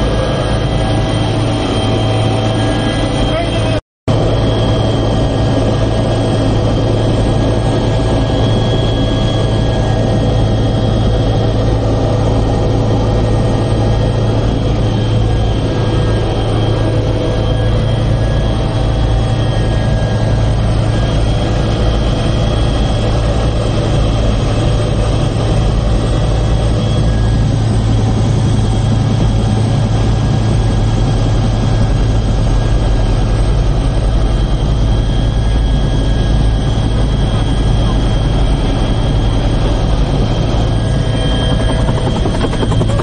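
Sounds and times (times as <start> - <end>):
helicopter engine and rotor drone: 0.0 - 43.0
high turbine whine: 0.0 - 43.0.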